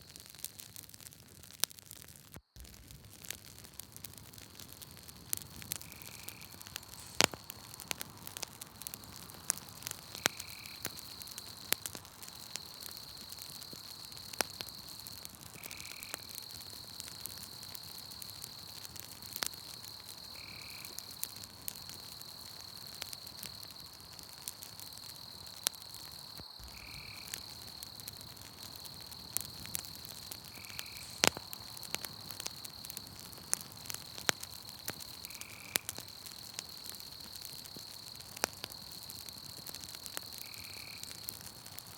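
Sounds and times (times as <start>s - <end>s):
campfire crackling and popping: 0.0s - 41.9s
night insects trilling: 4.3s - 41.9s.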